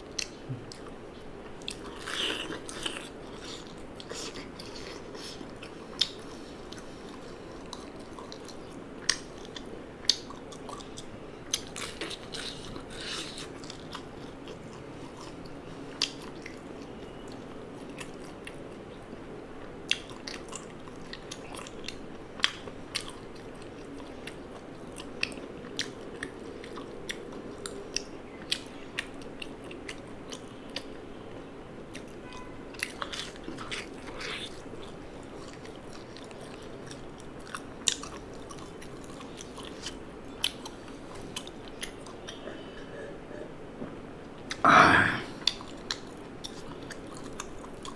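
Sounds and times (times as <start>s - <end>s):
crunchy eating and chewing: 0.0s - 47.9s
low background hum: 0.0s - 47.9s.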